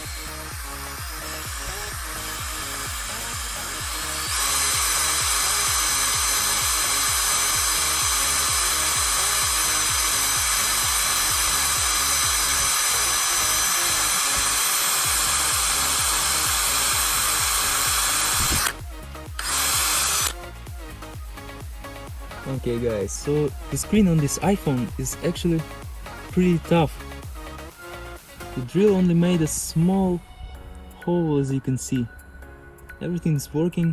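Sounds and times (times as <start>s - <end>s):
cordless drill running: 0.0s - 28.6s
background music with steady beat: 0.0s - 33.9s.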